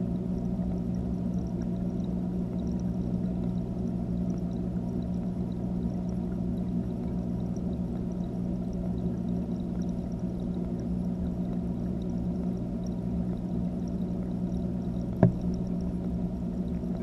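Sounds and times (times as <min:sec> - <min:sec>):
underwater hum and water churn: 0:00.0 - 0:17.0.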